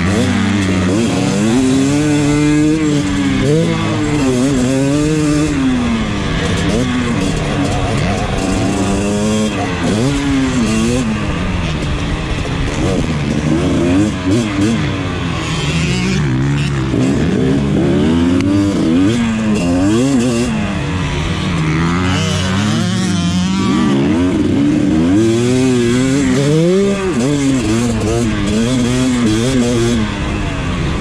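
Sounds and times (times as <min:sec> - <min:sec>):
motocross bike engine revving: 0:00.0 - 0:31.0.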